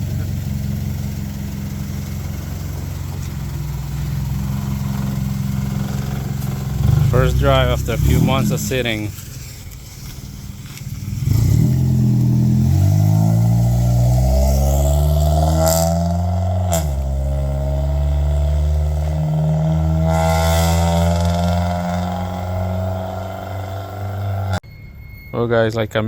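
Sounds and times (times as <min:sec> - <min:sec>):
car engine running: 0:00.0 - 0:24.6.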